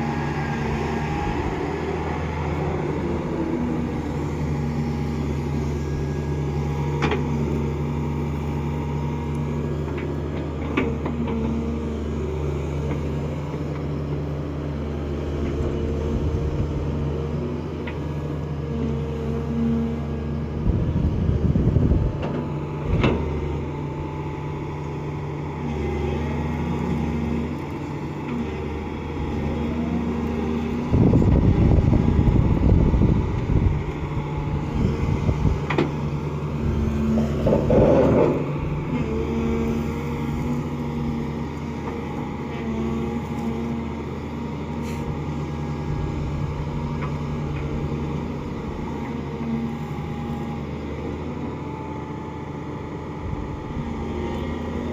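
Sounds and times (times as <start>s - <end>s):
excavator diesel engine working: 0.0s - 54.9s.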